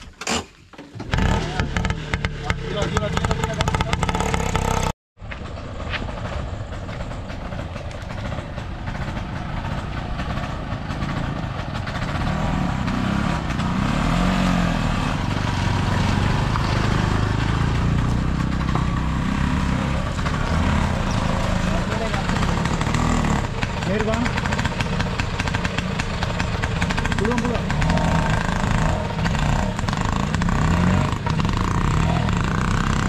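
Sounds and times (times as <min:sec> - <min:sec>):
motorbike engine: 0:00.0 - 0:33.0
auto-rickshaw engine: 0:00.8 - 0:33.0.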